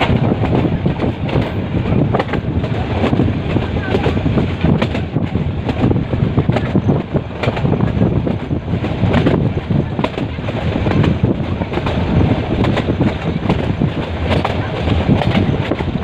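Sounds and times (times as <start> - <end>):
train carriage rattling: 0.0 - 16.0
wind buffeting microphone: 0.0 - 16.0.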